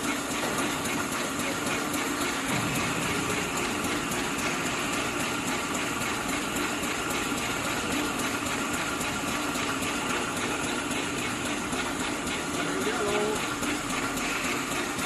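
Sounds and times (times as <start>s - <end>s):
fast light mechanical ticking: 0.0s - 15.0s.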